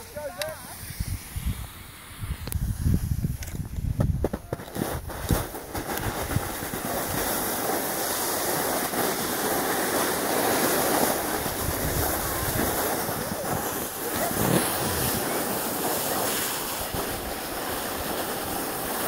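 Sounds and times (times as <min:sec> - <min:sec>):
snowboard scraping on snow: 0:00.1 - 0:19.0.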